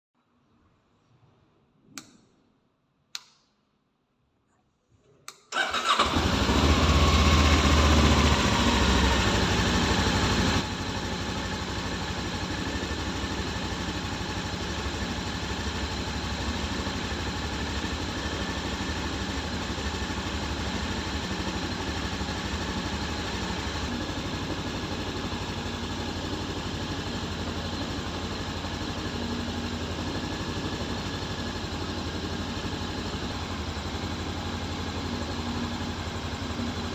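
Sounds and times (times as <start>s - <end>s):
motorcycle engine idling: 5.6s - 36.9s.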